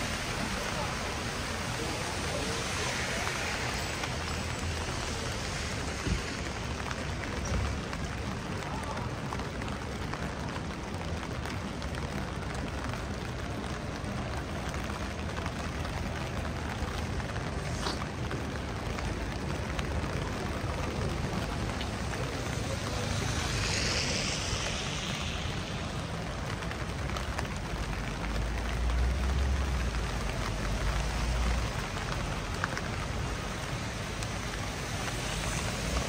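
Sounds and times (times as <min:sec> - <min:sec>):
rain on a street: 0:00.0 - 0:36.0.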